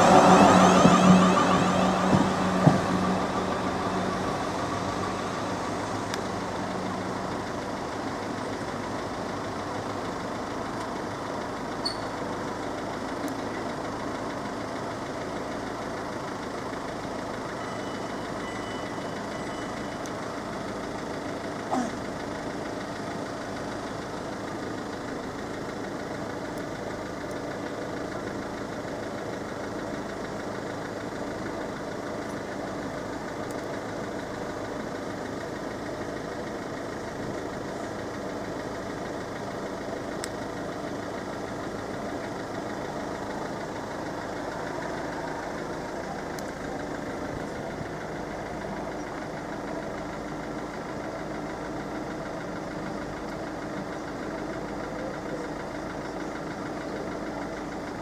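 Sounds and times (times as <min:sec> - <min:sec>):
vehicles idling: 0:00.0 - 0:58.0.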